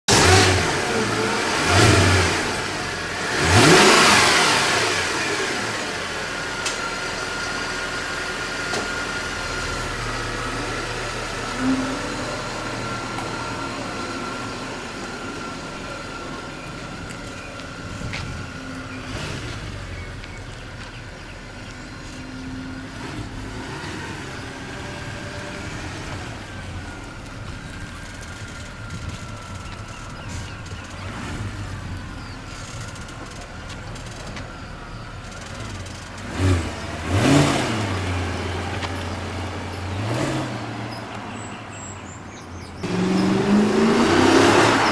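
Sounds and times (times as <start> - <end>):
car engine revving and idling: 0.0 - 44.9.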